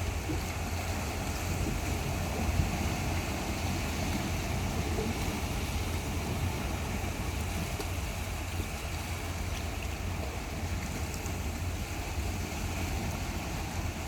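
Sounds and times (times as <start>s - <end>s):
sea water rushing: 0.0s - 14.0s.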